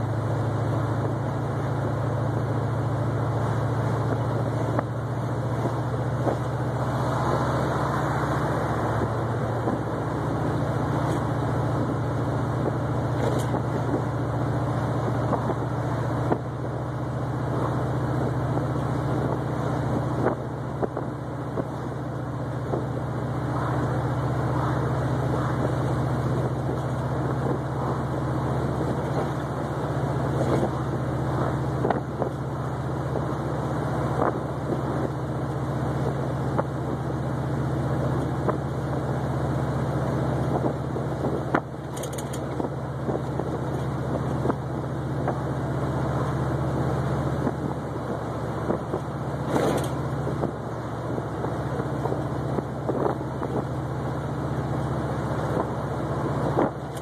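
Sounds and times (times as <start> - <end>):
car engine droning: 0.0 - 57.0
road noise: 0.0 - 57.0.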